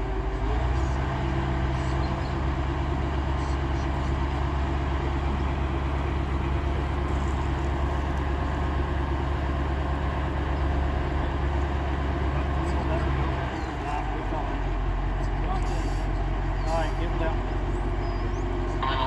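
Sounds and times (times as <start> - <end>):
heavy engine droning: 0.0 - 19.0.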